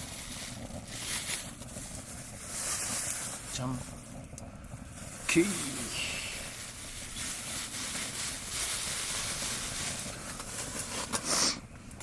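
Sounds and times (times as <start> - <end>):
campfire hissing: 0.0 - 12.0
faint fire crackles: 0.0 - 12.0.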